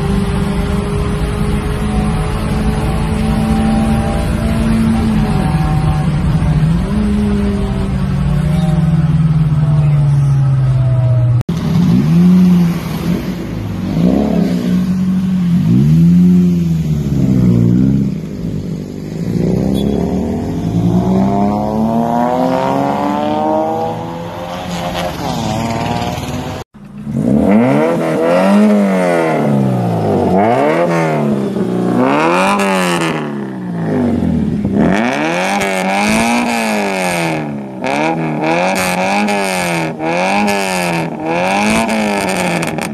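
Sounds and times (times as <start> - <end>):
car engines revving: 0.0 - 42.9.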